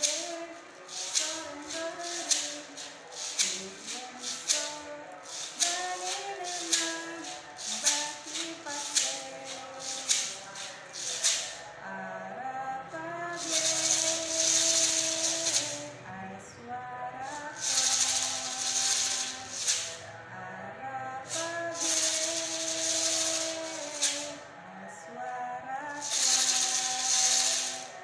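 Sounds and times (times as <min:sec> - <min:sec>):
maraca shaking: 0:00.0 - 0:12.0, 0:12.9 - 0:16.0, 0:17.2 - 0:20.1, 0:21.2 - 0:24.6, 0:25.9 - 0:28.0.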